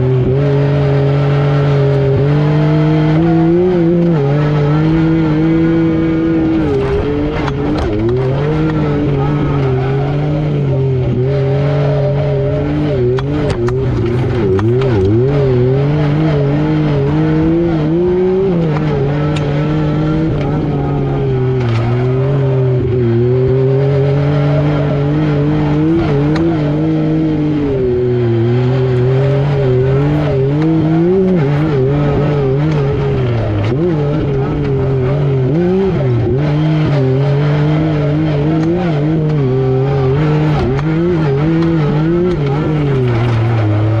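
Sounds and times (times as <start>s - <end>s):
engine revving: 0.0s - 44.0s.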